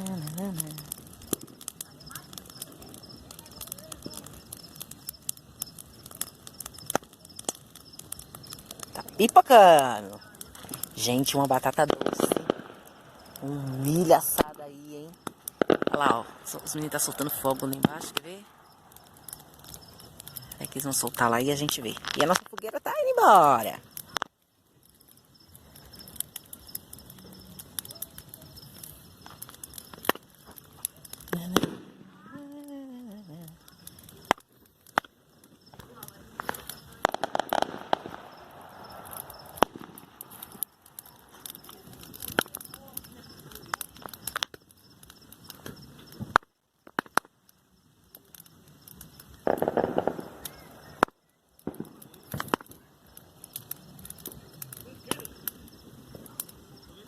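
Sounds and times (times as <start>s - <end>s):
sharp fire snaps: 0.0s - 57.0s
wood bonfire crackling: 0.0s - 57.0s.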